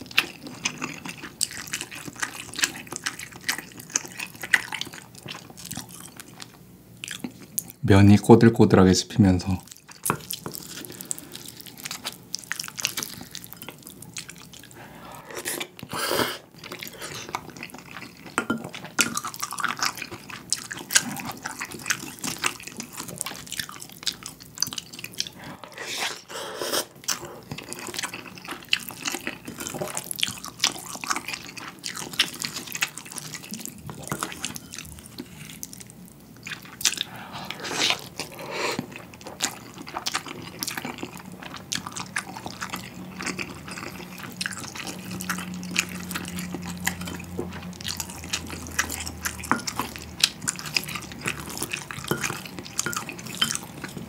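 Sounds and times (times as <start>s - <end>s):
wet chewing: 0.0s - 7.8s, 9.6s - 54.0s.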